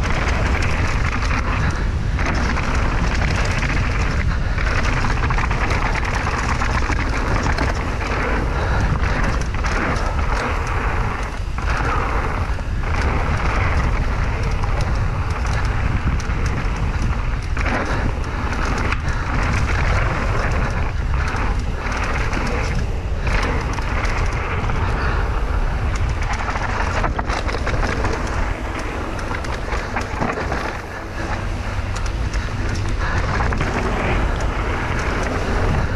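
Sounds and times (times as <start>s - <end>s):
heavy low rumble: 0.0s - 35.9s
steady rushing noise: 0.0s - 35.9s
wind buffeting microphone: 0.0s - 35.9s.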